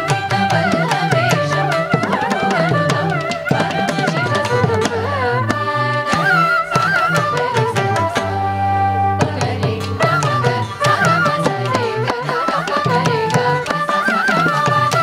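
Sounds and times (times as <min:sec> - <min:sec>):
violin: 0:00.0 - 0:15.0
women singing in unison: 0:00.0 - 0:15.0.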